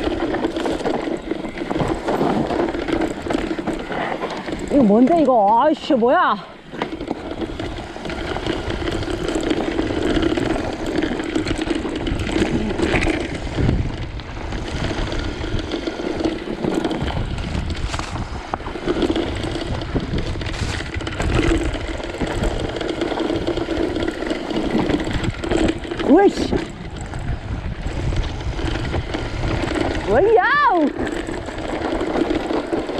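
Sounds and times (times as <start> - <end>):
bike rattles and knocks: 0.0 - 32.9
electric motor hum: 0.0 - 32.9
tyre rumble: 0.0 - 32.9.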